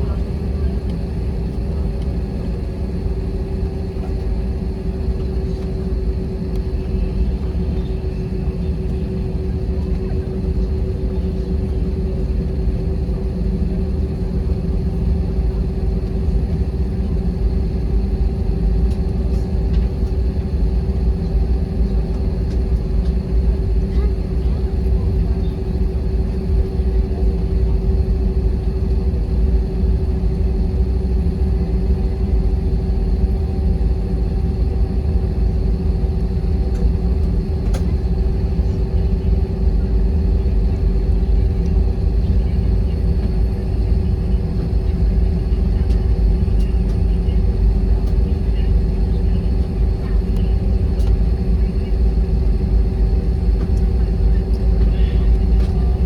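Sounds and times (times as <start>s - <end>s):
airliner cabin rumble: 0.0s - 56.0s
constant hum: 0.0s - 56.0s.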